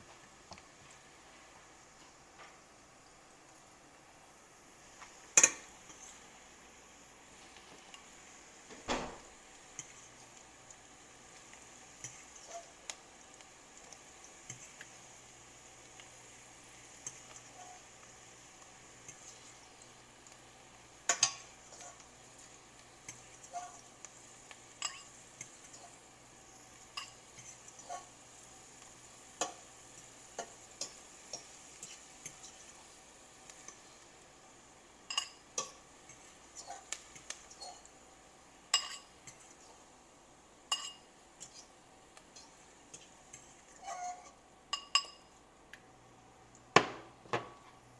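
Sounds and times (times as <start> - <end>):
faint sizzle from pan: 0.0 - 47.9.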